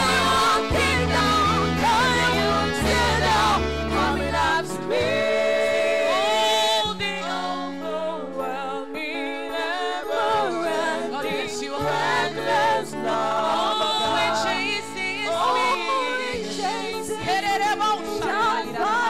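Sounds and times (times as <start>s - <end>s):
group singing a slow praise song: 0.0s - 19.0s.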